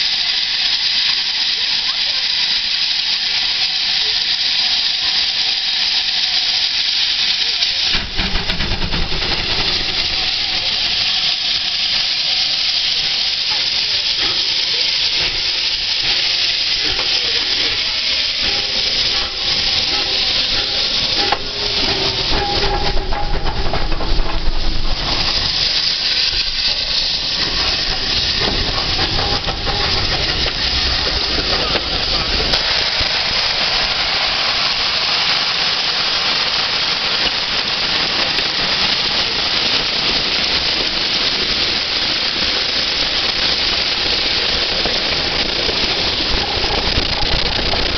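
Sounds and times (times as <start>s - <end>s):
coaches rolling on rails: 0.0s - 47.9s
steam hissing: 0.0s - 47.9s
steam locomotive exhaust beats: 0.0s - 47.9s.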